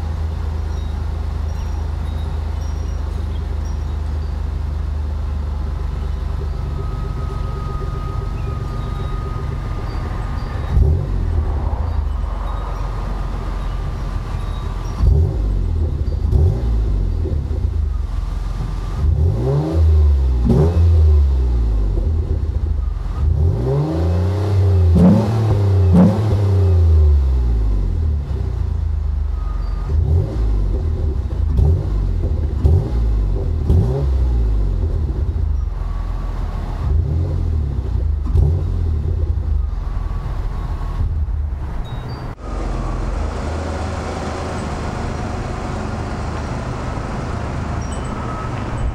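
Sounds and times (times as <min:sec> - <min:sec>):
car engine revving: 0:04.5 - 0:48.9.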